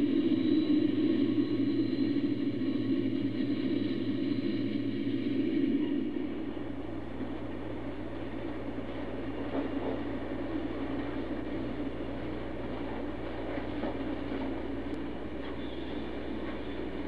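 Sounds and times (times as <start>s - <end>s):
model train wheels rumbling on rails: 0.0s - 17.0s.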